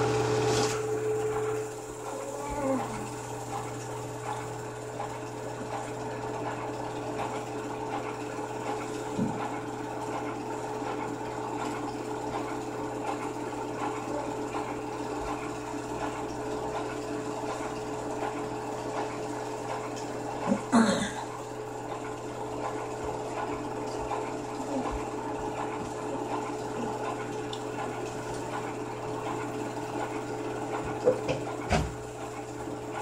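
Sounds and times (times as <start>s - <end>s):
film projector whirring: 0.0s - 33.0s.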